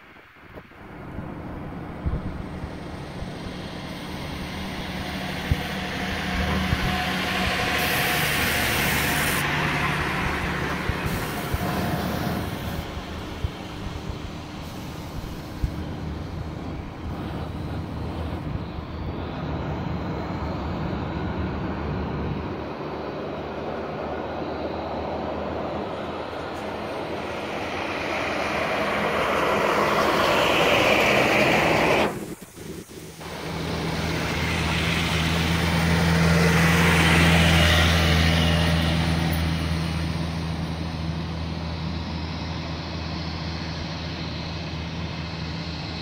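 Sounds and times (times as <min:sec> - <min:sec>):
jet engines rushing: 0:00.0 - 0:46.0.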